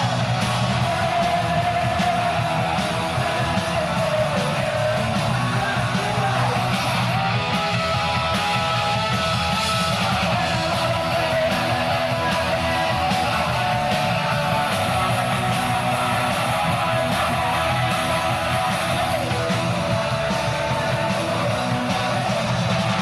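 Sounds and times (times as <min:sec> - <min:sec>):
punk rock music: 0:00.0 - 0:23.0
strummed electric guitar: 0:00.0 - 0:23.0.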